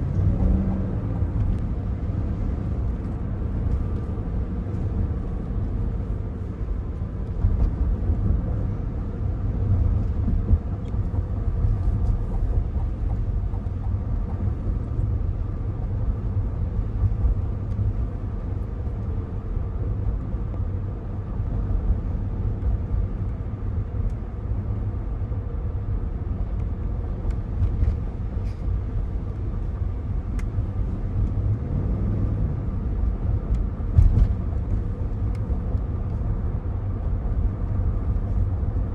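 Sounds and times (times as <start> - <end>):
low road rumble in car cabin: 0.0 - 38.9.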